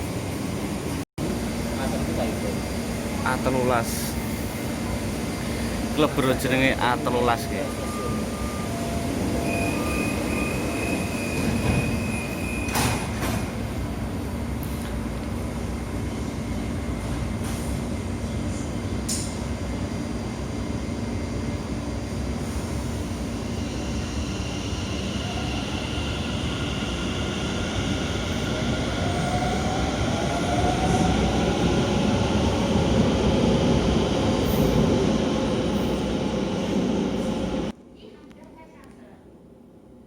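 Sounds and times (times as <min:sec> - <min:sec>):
metro train rumbling: 0:00.0 - 0:37.8.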